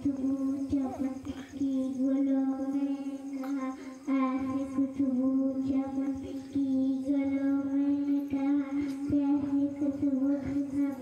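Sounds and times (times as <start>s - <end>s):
girl singing into a microphone: 0.0s - 11.0s.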